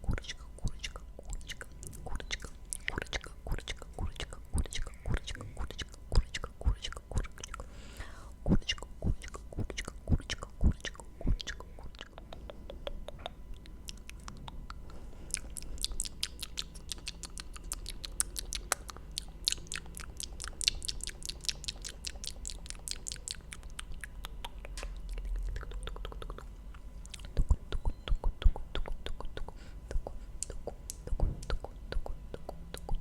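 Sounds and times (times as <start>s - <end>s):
wet mouth clicks and smacks: 0.1s - 7.7s, 8.5s - 33.0s.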